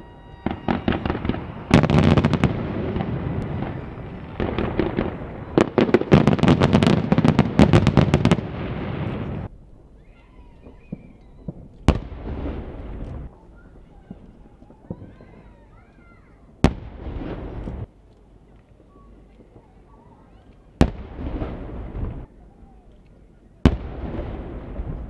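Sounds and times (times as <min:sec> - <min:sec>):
fireworks bursting: 0:00.0 - 0:17.9, 0:18.8 - 0:25.0
fireworks rumble: 0:00.0 - 0:25.0.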